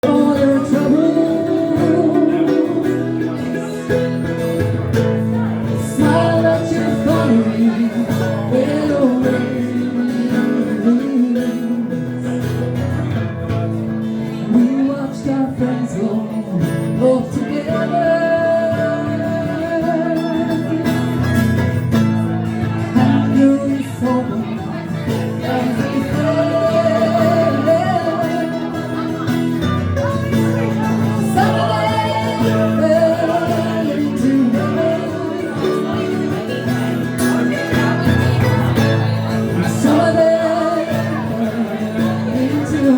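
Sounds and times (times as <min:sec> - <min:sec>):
acoustic guitar accompaniment: 0:00.0 - 0:42.9.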